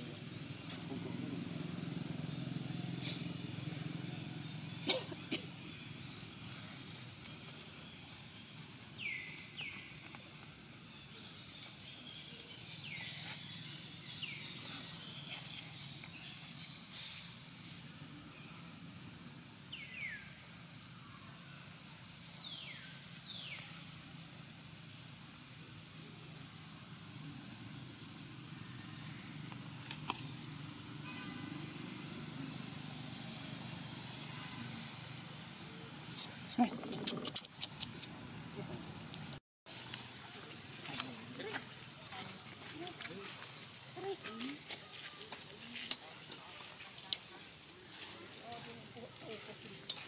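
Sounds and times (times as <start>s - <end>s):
outdoor background noise: 0.0s - 50.0s.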